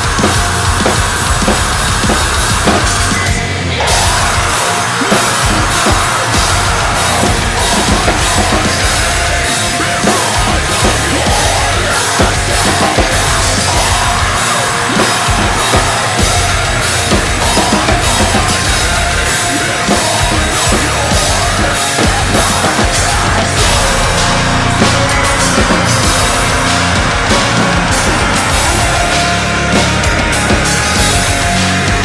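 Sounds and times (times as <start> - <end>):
heavy metal music: 0.0 - 32.0.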